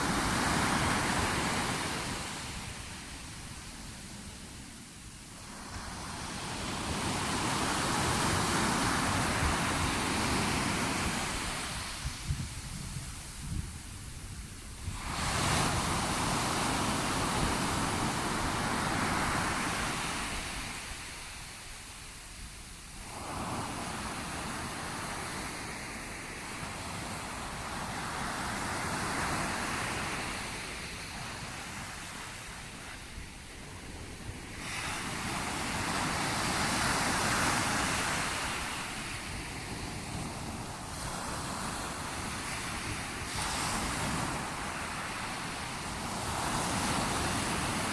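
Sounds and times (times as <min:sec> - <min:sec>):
sea waves breaking on shore: 0:00.0 - 0:14.1, 0:14.7 - 0:47.9.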